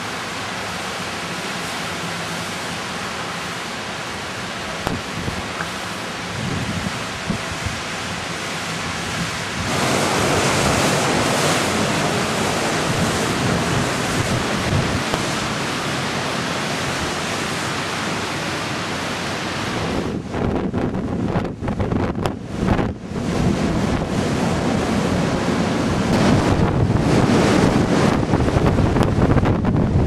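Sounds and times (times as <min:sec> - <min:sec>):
floodwater rushing: 0:00.0 - 0:30.0
hurricane wind rushing: 0:00.0 - 0:30.0.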